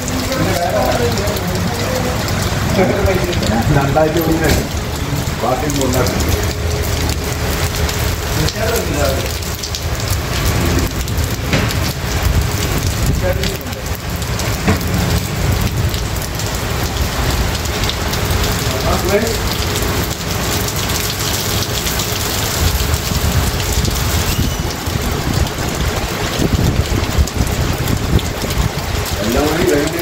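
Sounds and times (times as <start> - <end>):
heavy rain on pavement: 0.0 - 30.0.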